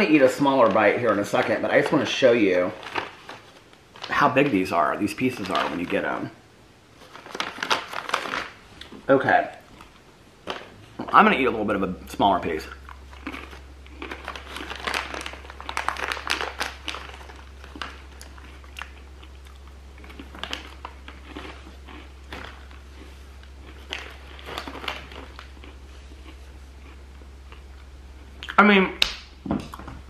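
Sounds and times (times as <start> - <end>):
pretzel crunching: 0.0 - 6.2, 7.0 - 29.9
crinkles: 0.0 - 6.3, 6.9 - 11.5, 12.4 - 28.6.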